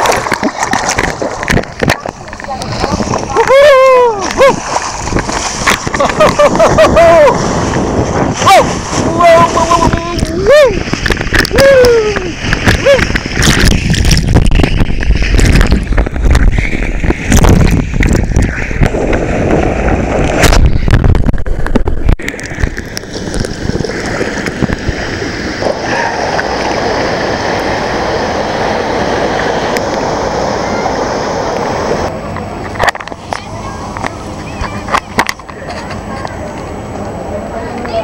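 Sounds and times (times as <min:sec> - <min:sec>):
heavy rumbling buffeting: 0:00.0 - 0:38.0
water rushing and splashing: 0:00.0 - 0:38.0.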